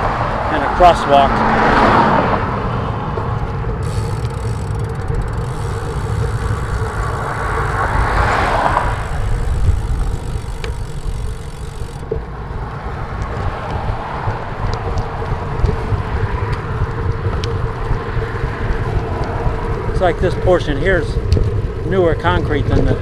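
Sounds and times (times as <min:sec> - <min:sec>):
motor vehicle passing: 0:00.0 - 0:23.0
wind buffeting microphone: 0:00.0 - 0:23.0.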